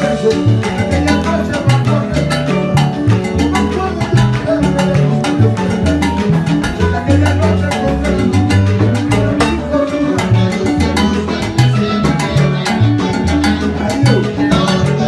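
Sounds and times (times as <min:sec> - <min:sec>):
bass line: 0:00.0 - 0:15.0
guitar: 0:00.0 - 0:15.0
keyboard: 0:00.0 - 0:15.0
percussion and drum kit: 0:00.0 - 0:15.0.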